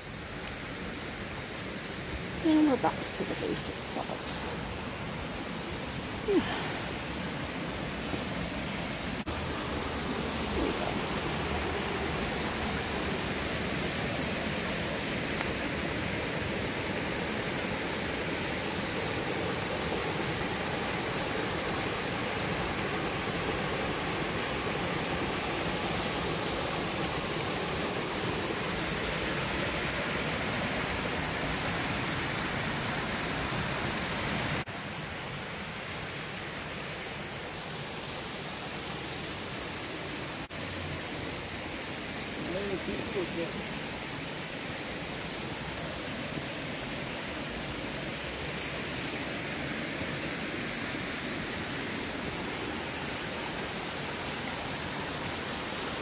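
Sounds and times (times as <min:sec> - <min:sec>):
water running over rock: 0:00.1 - 0:56.0.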